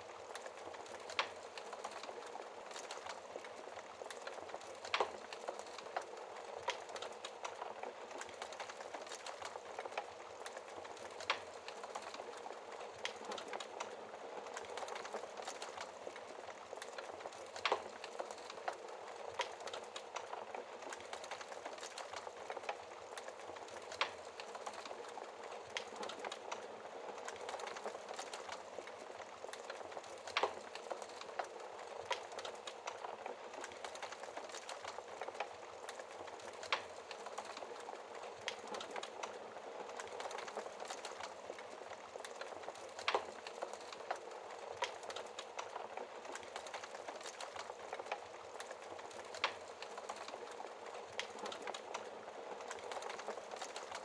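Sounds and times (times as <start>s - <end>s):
fire snaps and pops: 0.0s - 54.0s
wood fire hissing: 0.0s - 54.0s.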